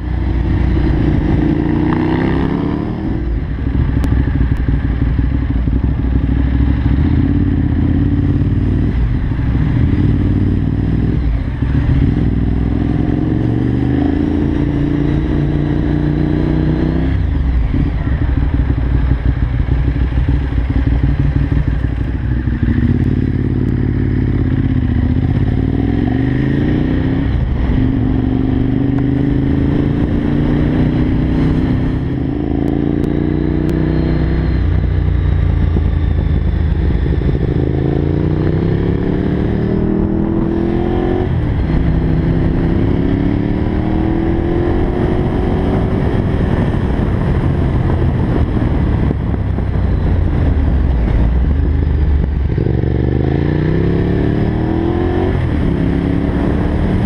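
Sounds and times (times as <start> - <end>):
motorcycle engine shifting gears: 0.0 - 57.0.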